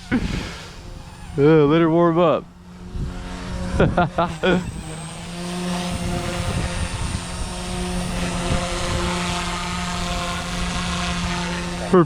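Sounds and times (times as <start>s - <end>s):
toy helicopter rotor whine: 0.0s - 12.0s.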